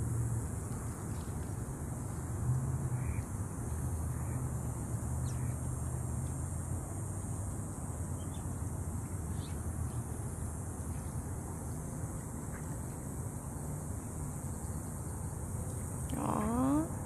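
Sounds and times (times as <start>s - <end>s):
rushing outdoor noise with low rumble: 0.0s - 17.0s.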